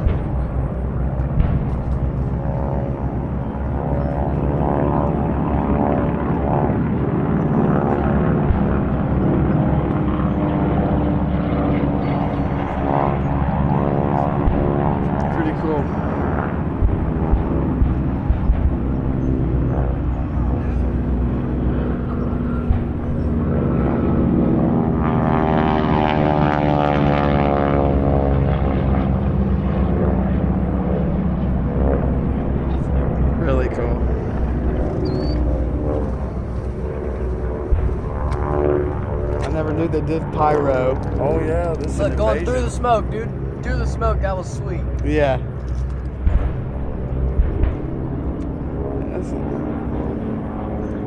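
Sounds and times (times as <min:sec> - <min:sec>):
propeller aircraft droning by: 0:00.0 - 0:51.0.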